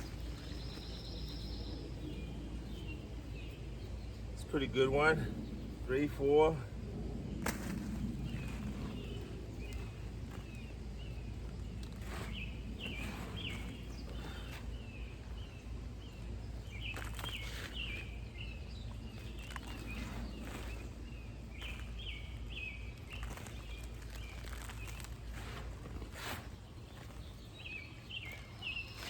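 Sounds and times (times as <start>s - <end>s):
bird chirping: 0.0s - 6.6s, 7.2s - 29.0s
hands sifting through soil: 0.0s - 6.7s, 7.4s - 29.0s
low background rumble: 0.0s - 29.0s.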